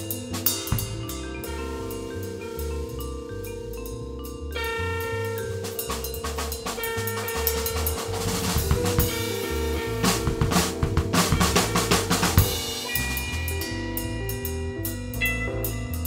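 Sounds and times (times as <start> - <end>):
bass line: 0.0 - 16.0
drum kit playing: 0.0 - 16.0
held chords: 0.0 - 16.0.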